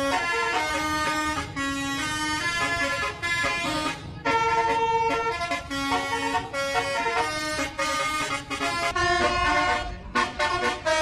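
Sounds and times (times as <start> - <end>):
multi-tone bus horn melody: 0.0 - 11.0.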